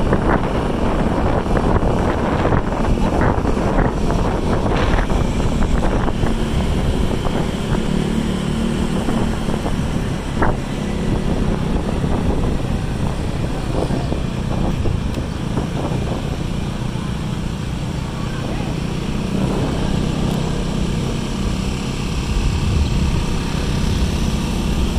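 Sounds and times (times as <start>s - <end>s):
road and wind noise: 0.0s - 24.9s.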